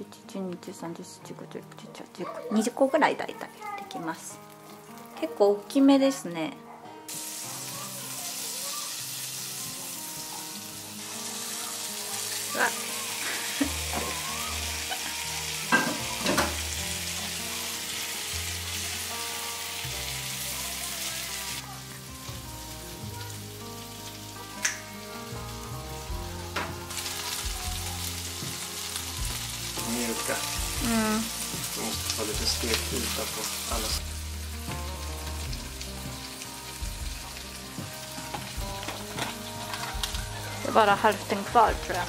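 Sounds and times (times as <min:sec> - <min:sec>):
meatballs sizzling in butter: 0:03.9 - 0:05.9, 0:07.1 - 0:42.0.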